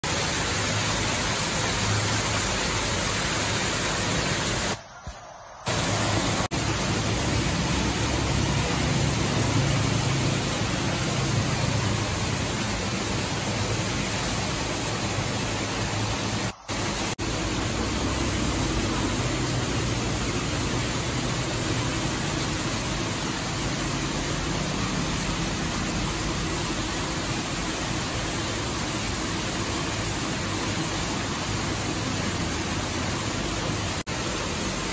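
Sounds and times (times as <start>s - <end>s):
waterfall splashing into pond: 0.0s - 34.9s.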